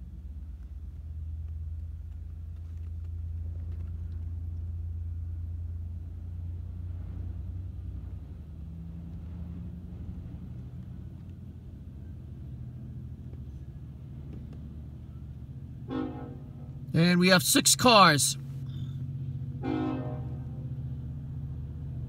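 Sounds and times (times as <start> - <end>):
diesel locomotive engine droning: 0.0 - 22.0.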